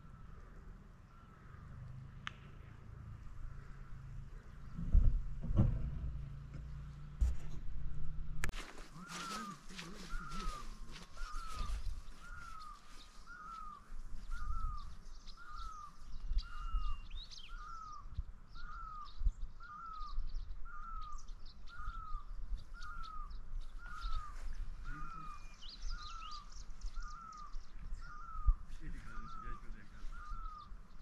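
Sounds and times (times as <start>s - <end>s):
birds chirping faintly: 0.0s - 5.4s, 7.8s - 31.0s.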